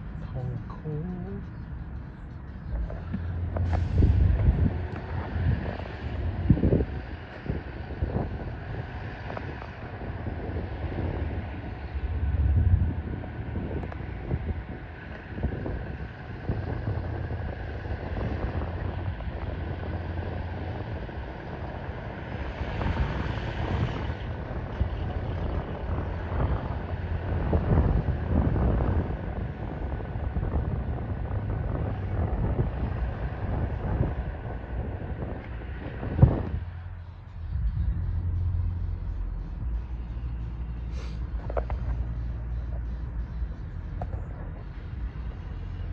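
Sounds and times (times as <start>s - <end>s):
distant engine rumble: 0.0s - 45.9s.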